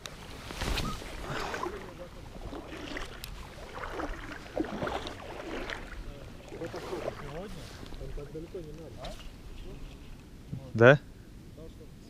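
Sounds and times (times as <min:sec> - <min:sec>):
small waves lapping: 0:00.0 - 0:10.7.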